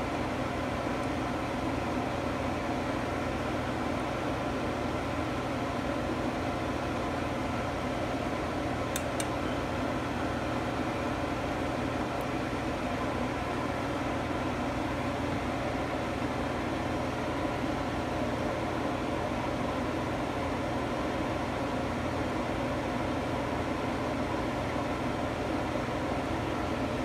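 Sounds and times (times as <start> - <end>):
appliance humming and hissing: 0.0 - 27.0.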